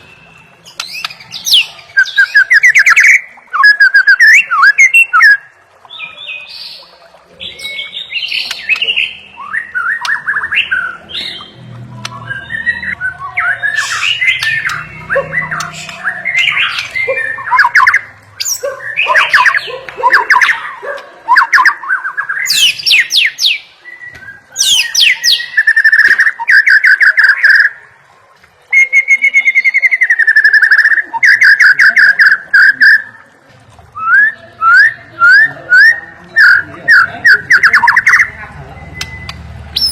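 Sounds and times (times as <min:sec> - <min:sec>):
bird singing whistled phrases: 0:00.0 - 0:27.9, 0:28.7 - 0:33.2, 0:34.0 - 0:39.9.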